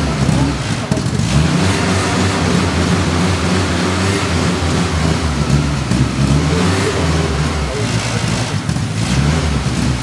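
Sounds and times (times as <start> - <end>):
buggy engine running: 0.0 - 10.0.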